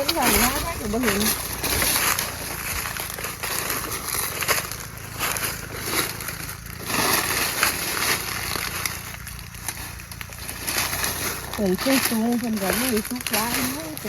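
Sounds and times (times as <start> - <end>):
dry leaves crunching underfoot: 0.0 - 14.0.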